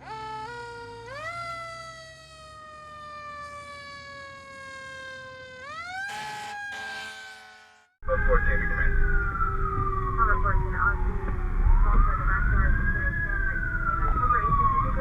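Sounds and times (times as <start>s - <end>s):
fire truck siren winding: 0.0s - 15.0s.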